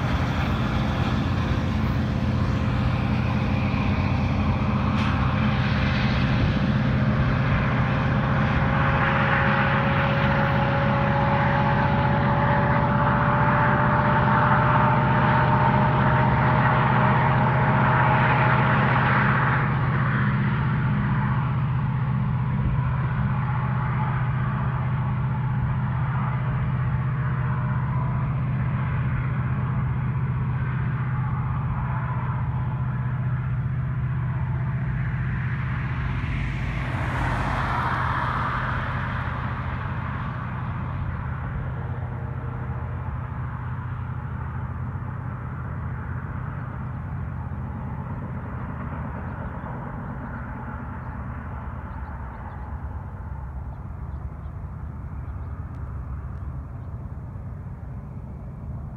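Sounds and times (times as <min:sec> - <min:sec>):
diesel locomotive engine drone: 0:00.0 - 0:58.9
road vehicle passing: 0:00.0 - 0:58.9.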